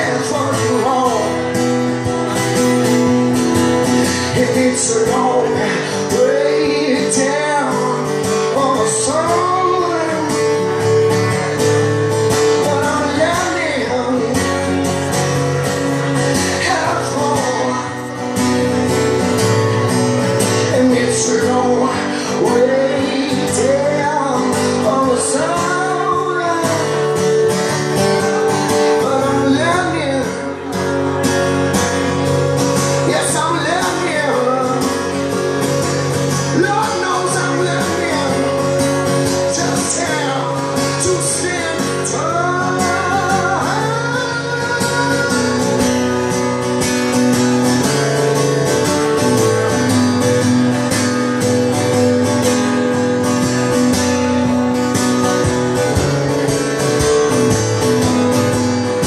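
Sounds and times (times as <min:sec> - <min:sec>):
man singing: 0:00.0 - 0:03.1, 0:03.8 - 0:19.2, 0:20.2 - 0:59.0
acoustic guitar strumming: 0:00.0 - 0:59.0.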